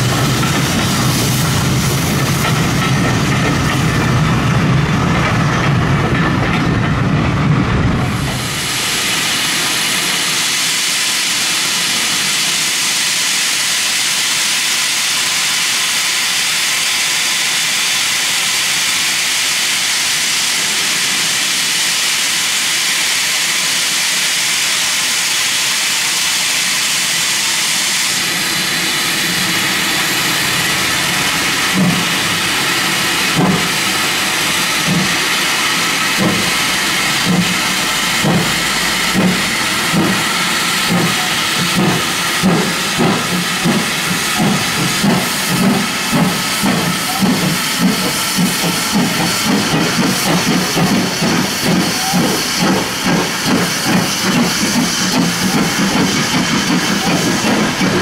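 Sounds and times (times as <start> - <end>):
loud hiss of escaping steam: 0.0 - 4.6, 8.0 - 58.0
steam locomotives rumbling: 0.0 - 58.0.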